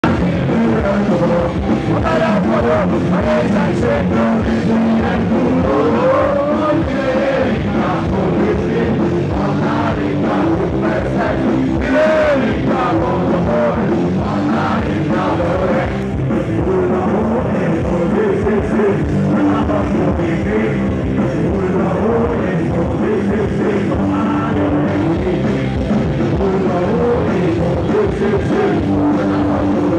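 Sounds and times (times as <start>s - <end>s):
drums: 0.0s - 29.9s
electric guitars: 0.0s - 29.9s
person singing: 0.0s - 29.9s.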